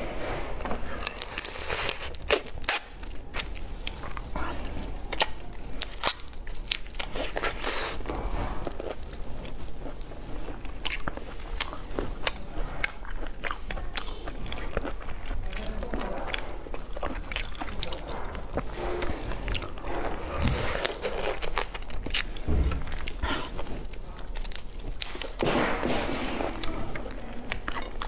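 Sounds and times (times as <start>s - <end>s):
prawn shells crunching: 0.7s - 26.0s.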